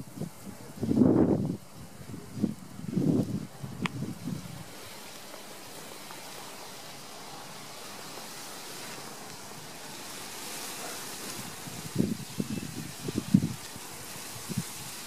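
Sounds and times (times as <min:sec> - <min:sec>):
wind hissing across microphone: 0:00.0 - 0:15.0.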